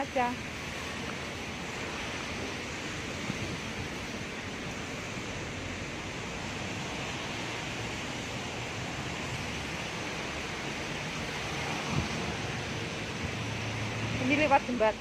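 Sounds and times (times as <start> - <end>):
heavy rain falling: 0.0 - 15.0
wind: 0.0 - 15.0.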